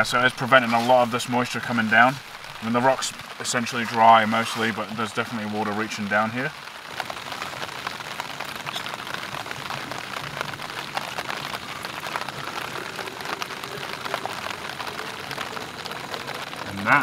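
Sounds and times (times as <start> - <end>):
rain pattering on a tarp: 0.0 - 17.0
water poured into plastic bottle: 0.0 - 17.0.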